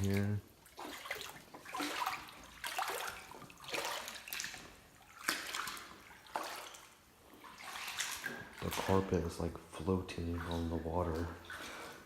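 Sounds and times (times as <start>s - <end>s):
boots wading through water: 0.0s - 12.0s.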